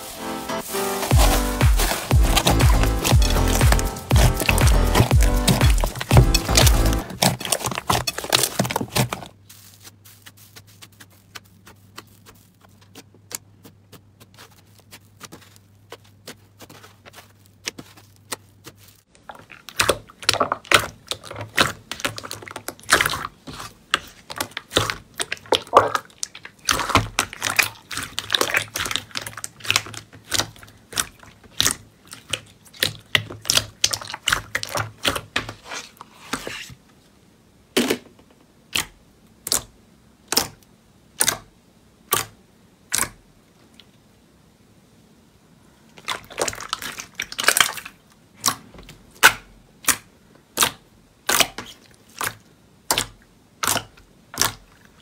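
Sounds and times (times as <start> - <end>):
slime crackling and popping: 0.6 - 35.3, 42.1 - 43.2, 46.0 - 55.0.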